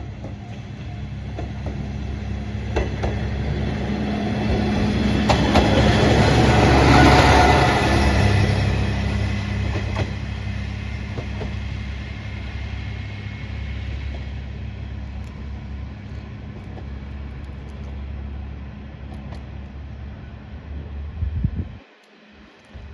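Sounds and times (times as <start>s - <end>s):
diesel railcar engine humming: 0.0s - 22.9s.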